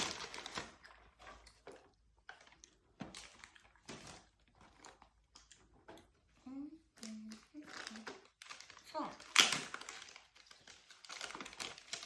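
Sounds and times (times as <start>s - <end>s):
packaging clicks and rustles: 0.0s - 6.2s, 7.0s - 12.0s.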